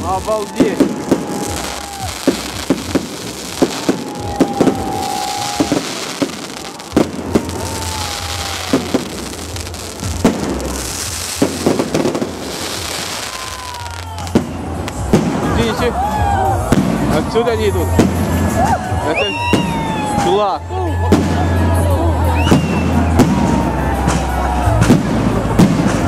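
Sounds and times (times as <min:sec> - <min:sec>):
fireworks bangs: 0:00.0 - 0:16.0, 0:16.6 - 0:18.7, 0:19.3 - 0:20.5, 0:21.1 - 0:26.0
fireworks crackle: 0:00.0 - 0:20.5, 0:21.1 - 0:26.0.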